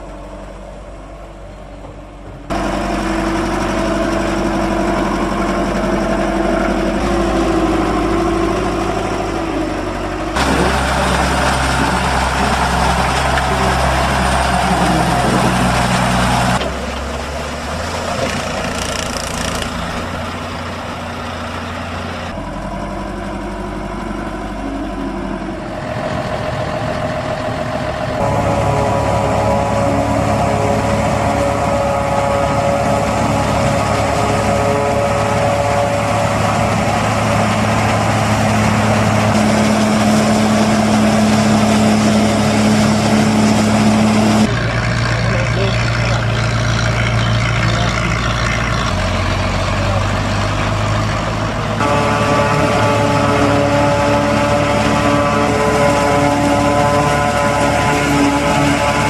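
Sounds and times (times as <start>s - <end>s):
diesel engines droning under load: 0.0s - 59.0s.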